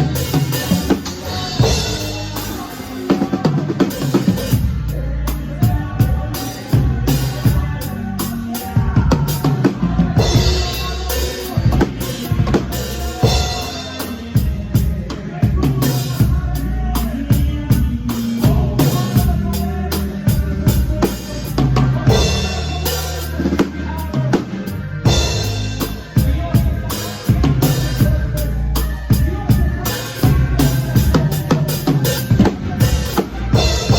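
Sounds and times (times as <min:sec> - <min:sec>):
drum kit beat: 0:00.0 - 0:33.9
live band music: 0:00.0 - 0:33.9.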